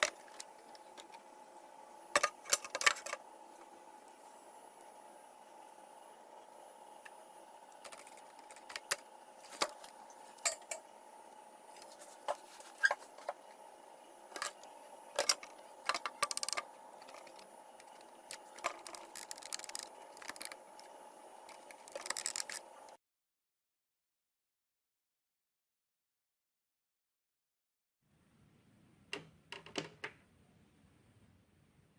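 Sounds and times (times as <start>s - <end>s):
faint steady hum: 0.0s - 23.0s, 28.1s - 31.9s.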